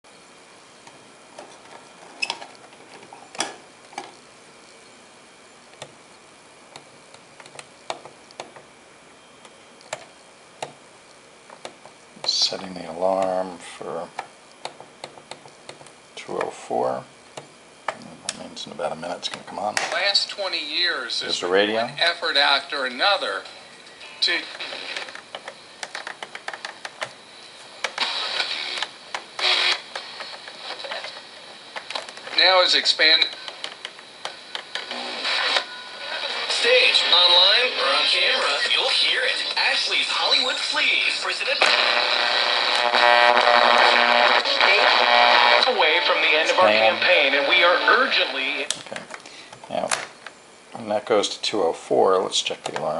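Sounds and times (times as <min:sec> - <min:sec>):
radio hiss bursts: 0:00.1 - 0:51.2
faint high whine: 0:00.1 - 0:52.9.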